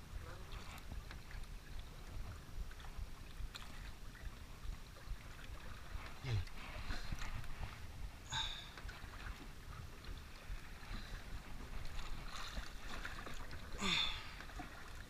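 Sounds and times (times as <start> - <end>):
wind buffeting microphone: 0.0 - 13.7
water against boat: 0.0 - 15.0.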